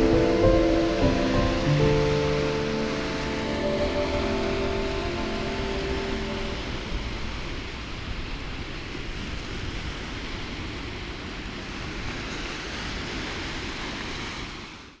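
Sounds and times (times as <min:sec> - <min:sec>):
wind and waves: 0:00.0 - 0:15.0.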